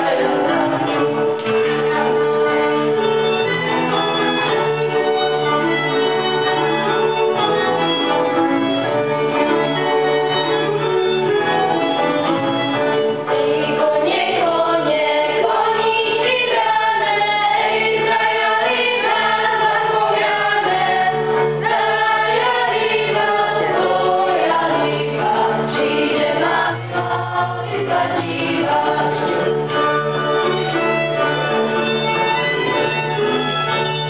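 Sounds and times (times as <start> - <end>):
group singing folk song: 0.0 - 8.5, 9.3 - 34.0
fiddles playing: 0.0 - 34.0.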